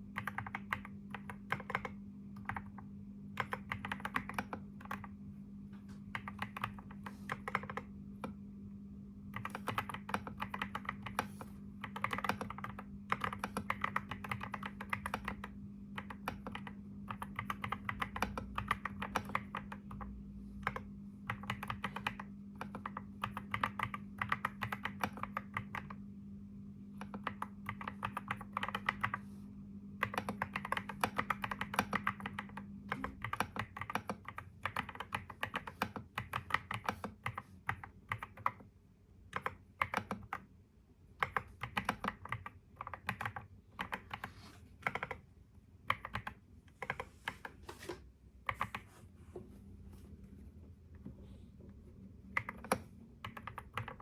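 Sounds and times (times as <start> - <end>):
steady low hum: 0.0 - 54.0
typing on computer keyboard: 0.1 - 5.1, 6.1 - 8.4, 9.3 - 26.0, 27.0 - 29.2, 30.0 - 38.7, 39.3 - 40.5, 41.2 - 47.5, 48.5 - 48.9, 52.3 - 54.0.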